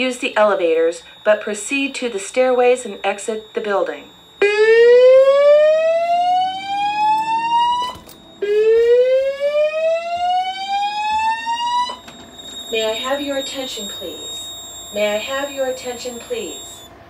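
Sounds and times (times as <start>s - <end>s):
fire alarm whoop tones: 0.0s - 17.0s.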